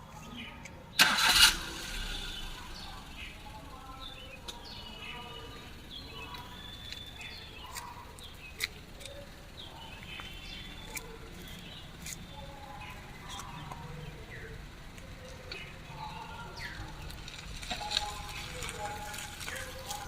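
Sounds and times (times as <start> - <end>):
small birds chirping: 0.0 - 20.0
low steady rumble: 1.5 - 20.0.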